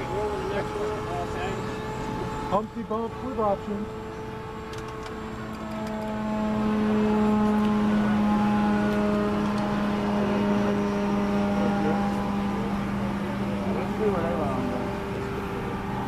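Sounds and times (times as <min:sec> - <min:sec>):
model airplane motor buzzing: 0:00.0 - 0:16.0.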